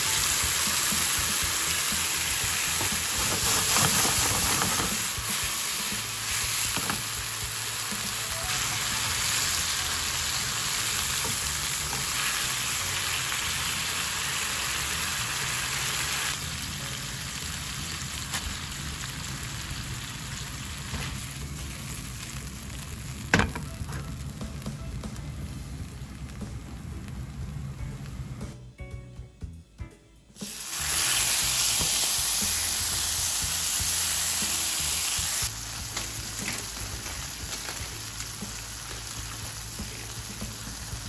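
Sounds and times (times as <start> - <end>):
food sizzling in a frying pan: 0.0 - 27.5, 30.4 - 41.0.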